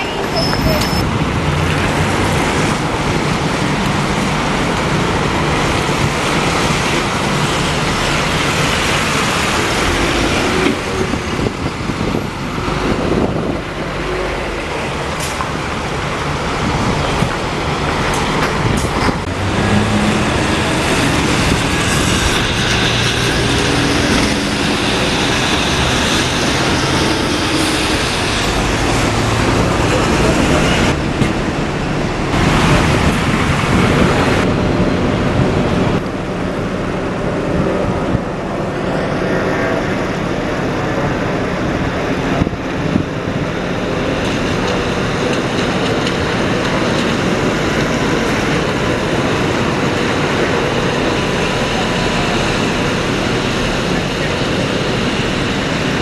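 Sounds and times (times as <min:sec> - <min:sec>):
bus diesel engines: 0:00.0 - 0:56.0
cars passing: 0:00.0 - 0:56.0
city traffic noise: 0:00.0 - 0:56.0.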